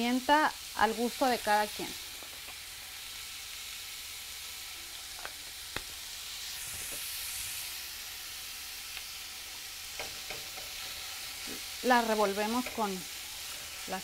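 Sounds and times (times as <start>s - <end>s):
meat and onion sizzling in pan: 0.0s - 14.0s.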